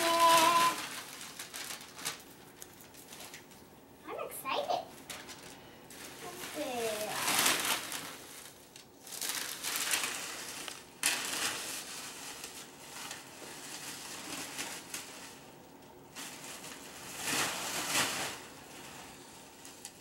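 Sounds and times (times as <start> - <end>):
gift bag crinkling: 0.0 - 3.6, 5.0 - 20.0.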